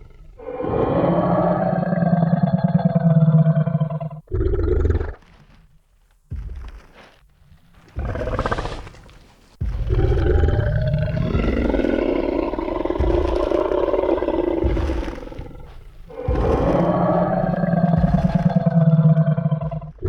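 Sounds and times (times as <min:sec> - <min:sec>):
dinosaur roar: 0:00.0 - 0:05.4, 0:08.0 - 0:09.0, 0:09.6 - 0:20.0.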